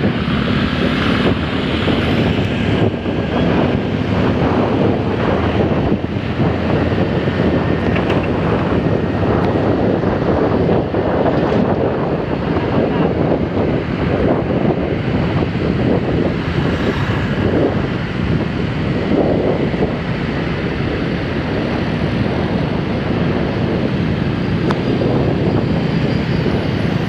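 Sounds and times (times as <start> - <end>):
road traffic rumble: 0.0 - 27.0
wind buffeting microphone: 0.0 - 27.0.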